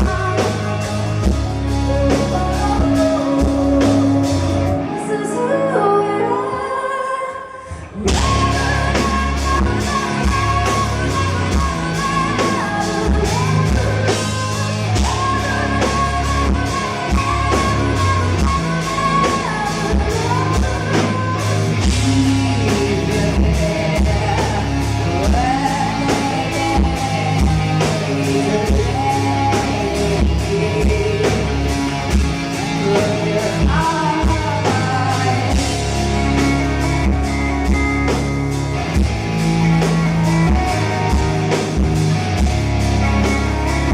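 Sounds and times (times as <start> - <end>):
steady drum beat: 0.0 - 4.7, 8.1 - 43.9
woman singing: 0.0 - 38.3
electric guitar: 0.0 - 43.9.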